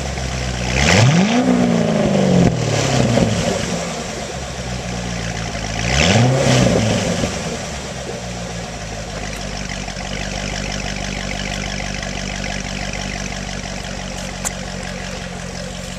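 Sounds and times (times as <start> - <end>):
car engine revving and idling: 0.0 - 15.9.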